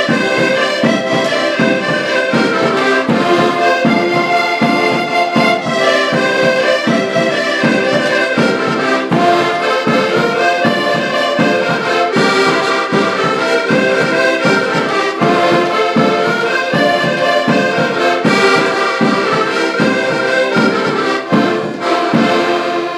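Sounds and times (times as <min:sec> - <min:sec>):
accordions playing: 0:00.0 - 0:22.9.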